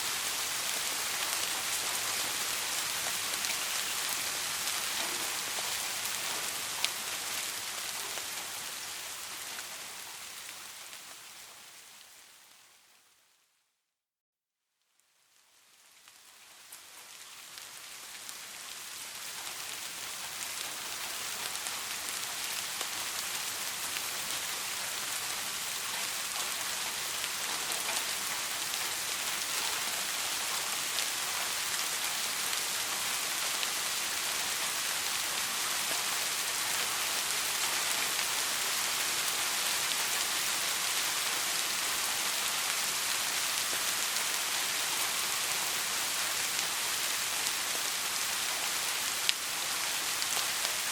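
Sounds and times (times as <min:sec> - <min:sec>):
steady rain falling: 0:00.0 - 0:13.5, 0:14.8 - 0:50.9.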